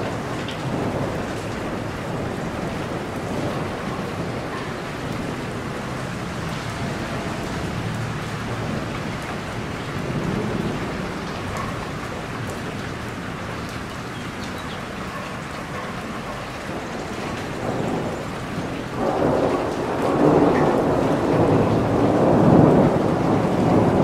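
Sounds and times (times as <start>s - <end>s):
low rumble of thunder: 0.0s - 13.6s, 16.0s - 24.0s
dense rainfall: 0.0s - 24.0s.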